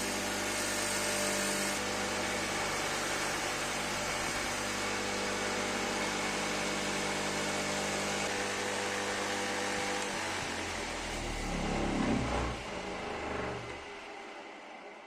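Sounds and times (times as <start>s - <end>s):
power tool motor humming: 0.0s - 4.7s, 5.7s - 14.0s.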